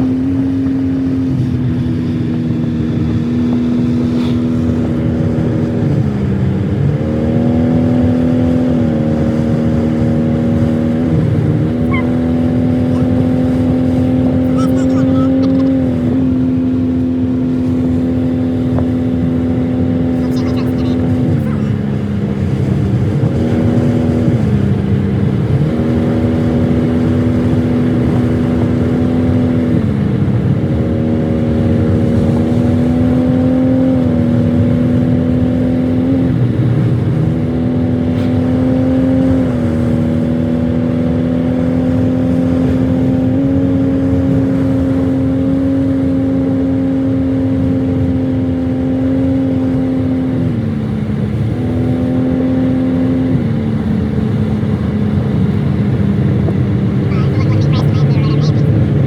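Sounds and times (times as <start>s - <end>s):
car engine shifting gears: 0.0s - 59.0s.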